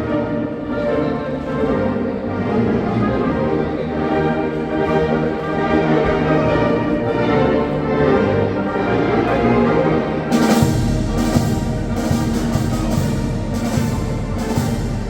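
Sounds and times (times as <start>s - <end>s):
brass and woodwind band playing: 0.0s - 15.0s.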